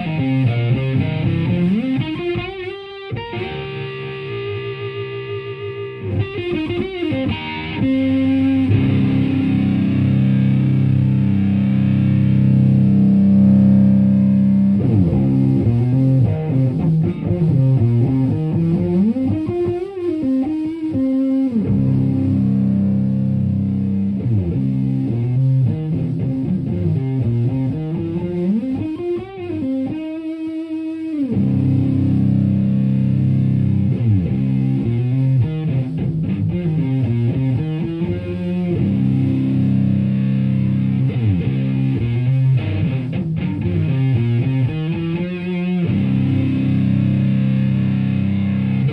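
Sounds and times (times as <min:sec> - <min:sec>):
fuzz-distorted electric guitar: 0:00.0 - 0:48.9.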